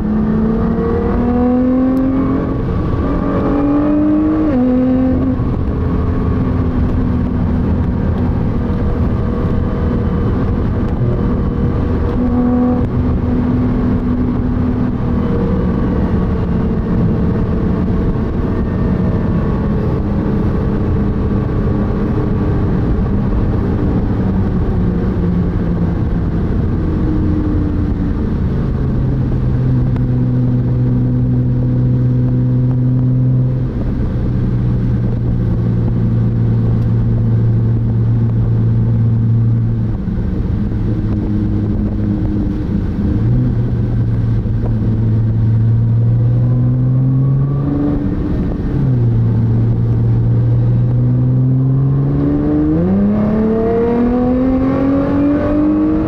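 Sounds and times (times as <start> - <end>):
car engine from inside cabin: 0.0 - 56.0
road and tyre noise: 0.0 - 56.0.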